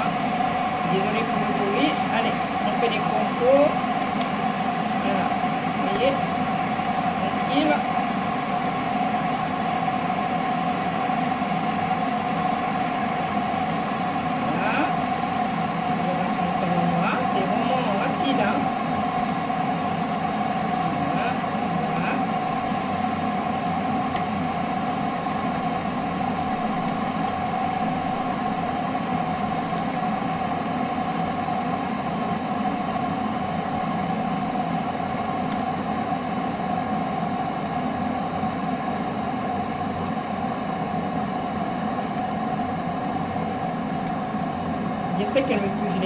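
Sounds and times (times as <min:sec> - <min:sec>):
constant hum: 0:00.0 - 0:46.0
kettle heating water: 0:00.0 - 0:46.0.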